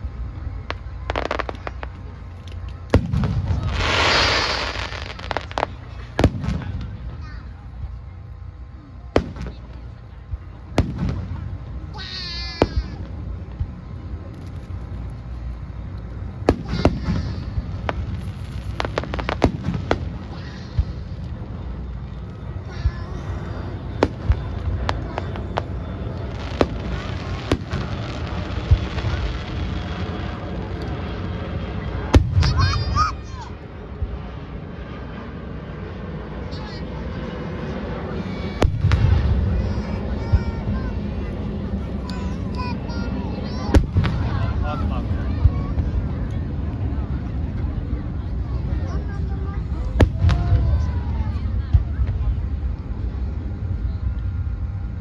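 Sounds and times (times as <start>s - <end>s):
fireworks bangs: 0.0s - 35.0s, 35.8s - 55.0s
fireworks hissing crackle: 0.0s - 55.0s
low rumble: 0.0s - 55.0s.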